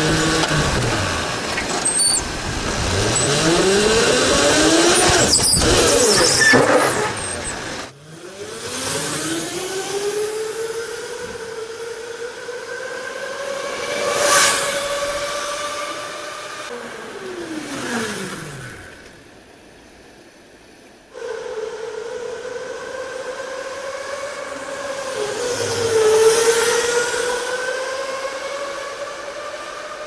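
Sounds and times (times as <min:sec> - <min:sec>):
electric go-kart motor whine: 0:00.0 - 0:19.8, 0:21.1 - 0:30.0.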